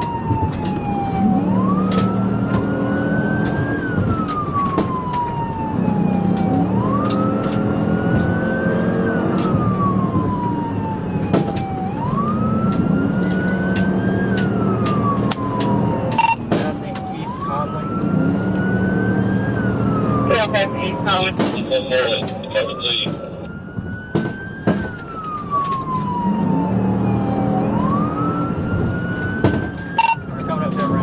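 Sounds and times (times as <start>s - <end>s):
car engine and road noise: 0.0s - 31.0s
police siren wailing: 0.0s - 31.0s.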